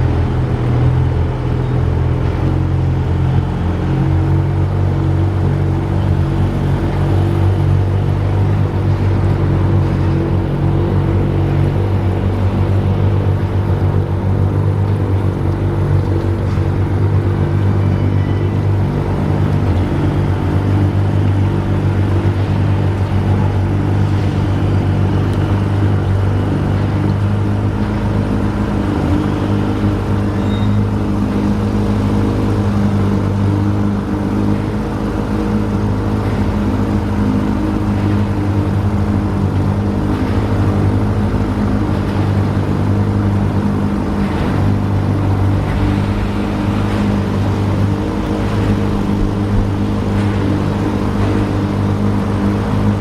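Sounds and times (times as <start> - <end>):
vehicle engine drone: 0.0 - 53.0.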